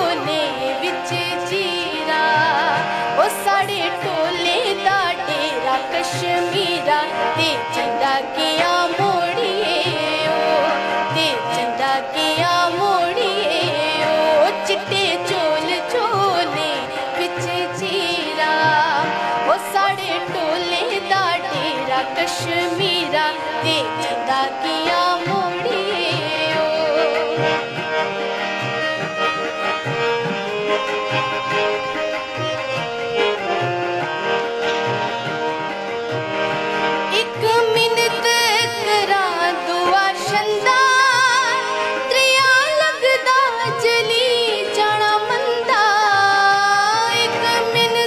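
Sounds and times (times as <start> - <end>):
woman singing folk song: 0.0 - 27.6, 37.1 - 48.0
harmonium: 0.0 - 48.0.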